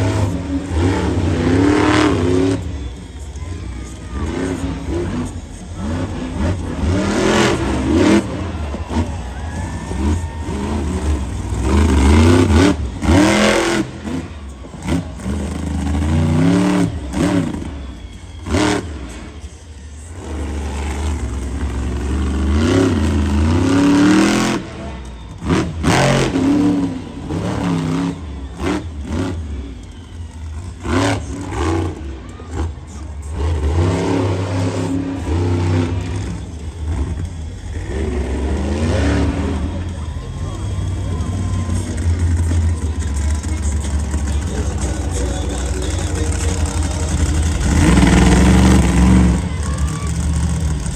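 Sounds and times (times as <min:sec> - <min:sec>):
monster truck engine revving: 0:00.0 - 0:50.9.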